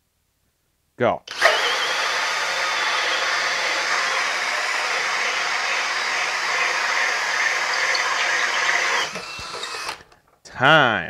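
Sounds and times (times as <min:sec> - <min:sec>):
drill with hole saw cutting wood: 0:01.3 - 0:10.2.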